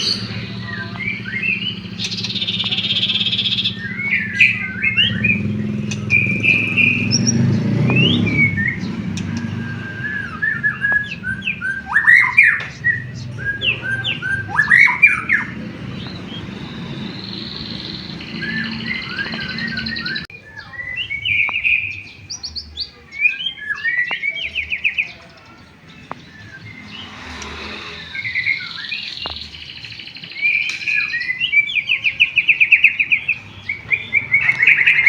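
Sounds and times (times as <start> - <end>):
bird singing whistled notes: 0.0 - 35.0.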